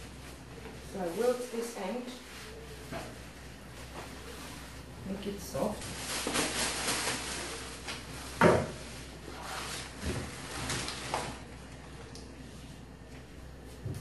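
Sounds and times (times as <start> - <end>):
banana leaves rustling: 0.0 - 11.9.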